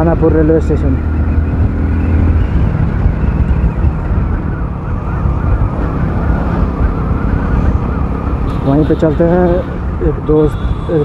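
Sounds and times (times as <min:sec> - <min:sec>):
wind buffeting microphone: 0:00.0 - 0:10.9
motorcycle engine running: 0:00.0 - 0:11.0.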